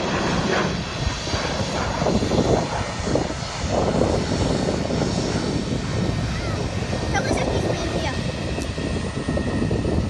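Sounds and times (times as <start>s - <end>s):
airliner engines running: 0.0s - 10.0s.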